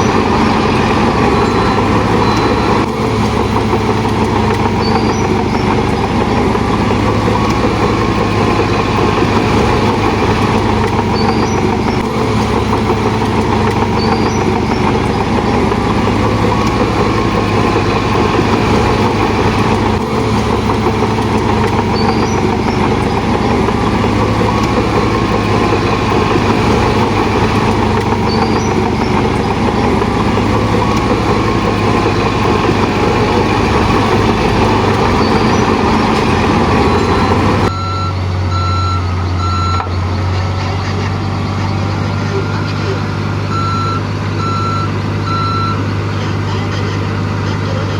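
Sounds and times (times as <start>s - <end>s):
diesel engine drone: 0.0s - 47.9s.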